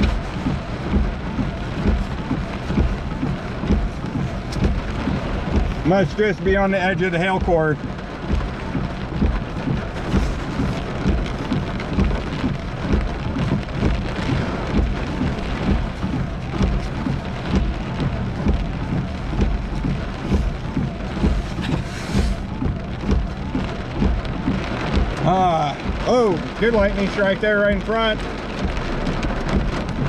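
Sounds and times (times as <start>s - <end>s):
heavy rain on car roof: 0.0s - 30.0s.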